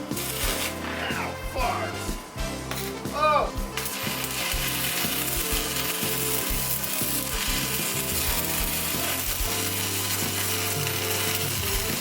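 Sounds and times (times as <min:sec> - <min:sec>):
background music: 0:00.0 - 0:12.0
welding arc crackling: 0:00.0 - 0:12.0.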